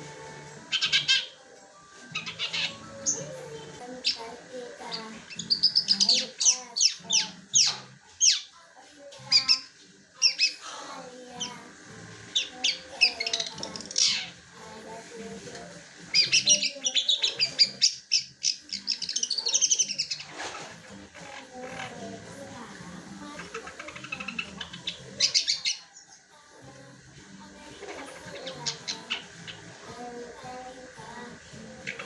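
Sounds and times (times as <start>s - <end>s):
bird singing varied song: 0.0s - 32.0s.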